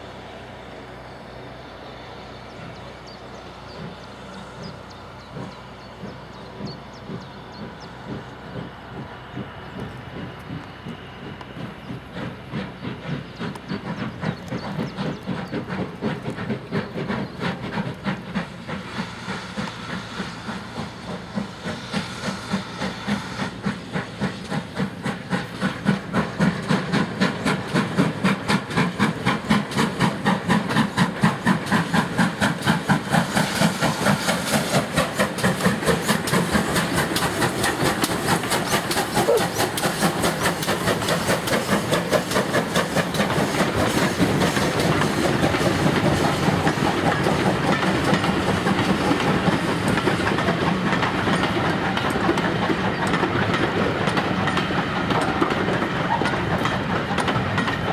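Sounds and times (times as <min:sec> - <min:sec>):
steam hissing: 0:00.0 - 0:57.9
steam locomotive exhaust beats: 0:00.0 - 0:57.9.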